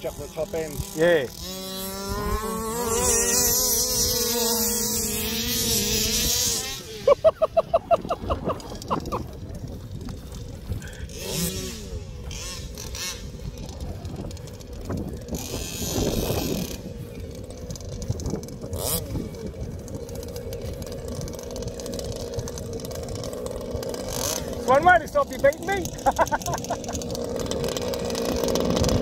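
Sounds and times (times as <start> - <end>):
rush of engine noise: 0.0 - 29.0
small two-stroke engines idling: 0.0 - 29.0.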